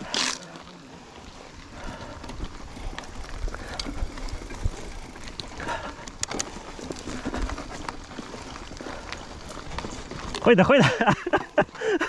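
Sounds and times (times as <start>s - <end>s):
bike rattling over rough trail: 0.0s - 12.0s.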